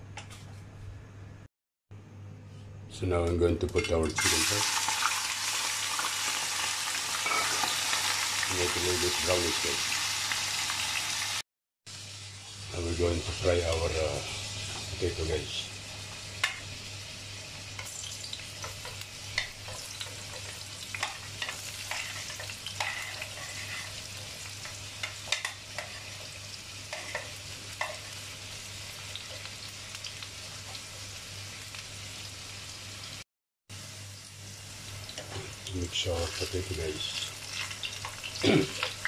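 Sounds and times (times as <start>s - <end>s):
potatoes sizzling in oil: 4.2s - 39.0s.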